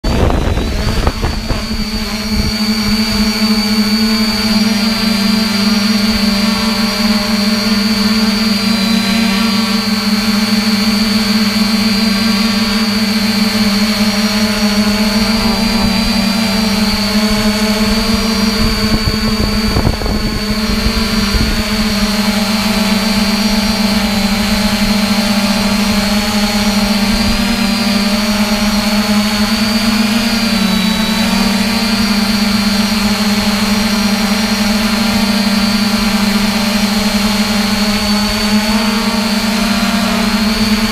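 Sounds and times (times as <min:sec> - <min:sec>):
drone motors humming: 0:00.0 - 0:40.9
high whine: 0:00.0 - 0:40.9.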